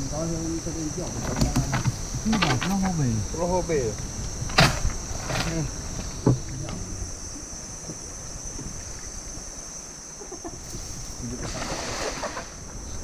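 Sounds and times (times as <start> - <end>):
high insect drone: 0.0 - 13.0
water noise: 0.0 - 13.0
wind noise: 0.0 - 13.0.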